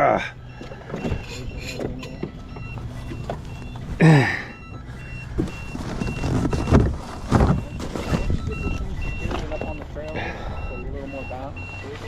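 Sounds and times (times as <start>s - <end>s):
electronic alarm beeping: 0.0s - 12.0s.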